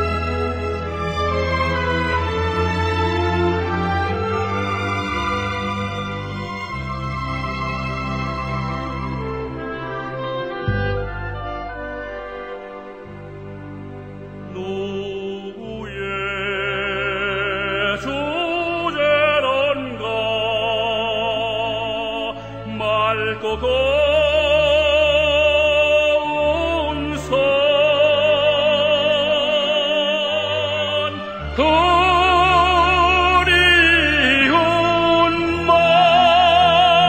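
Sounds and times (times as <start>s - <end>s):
operatic style music: 0.0s - 37.0s.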